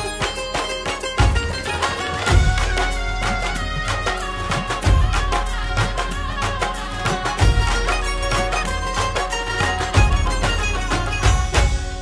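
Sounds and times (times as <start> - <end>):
instrumental film song music: 0.0 - 12.0.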